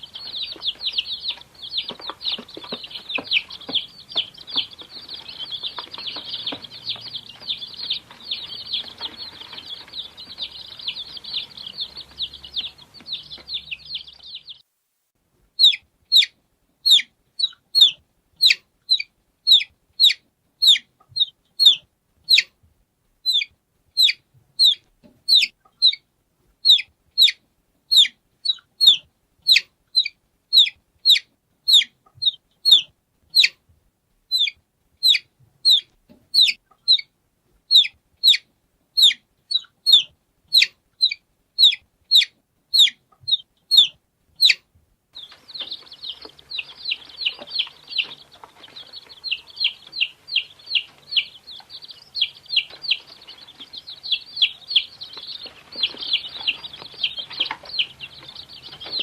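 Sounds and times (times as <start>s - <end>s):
chick peeping: 0.0s - 14.6s, 15.6s - 22.6s, 23.2s - 33.7s, 34.3s - 59.0s.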